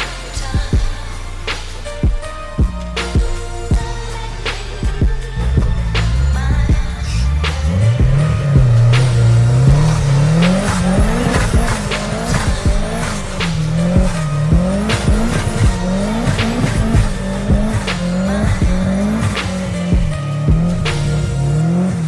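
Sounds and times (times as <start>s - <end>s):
car engine revving: 0.0s - 22.0s
tyres spinning and squealing: 0.0s - 22.0s.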